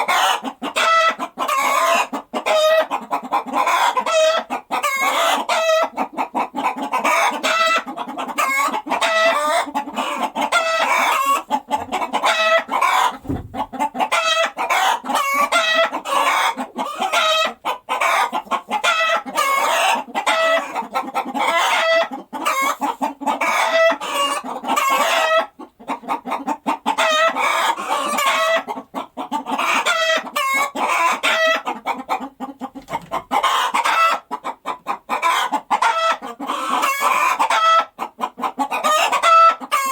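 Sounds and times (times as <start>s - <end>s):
hens clucking: 0.0s - 39.9s.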